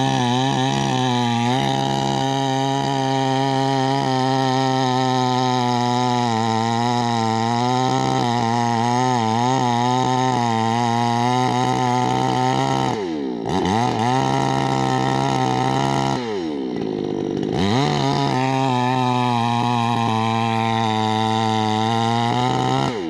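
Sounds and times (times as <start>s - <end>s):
chainsaw cutting tree trunk: 0.0s - 23.0s.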